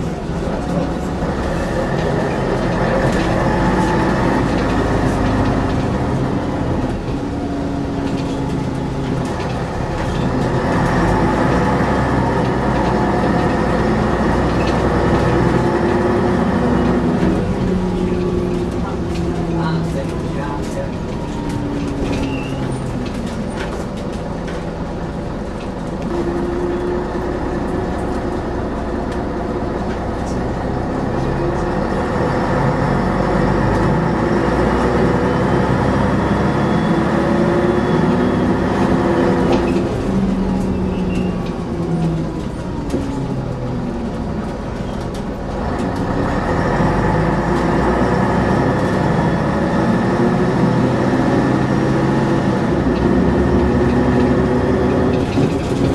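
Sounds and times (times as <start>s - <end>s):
bus engine changing gear: 0.0s - 55.9s.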